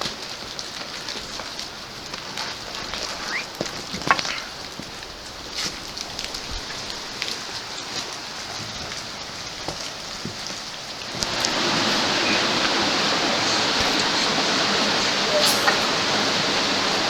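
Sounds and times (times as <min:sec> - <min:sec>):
rushing water hiss: 0:00.0 - 0:17.0.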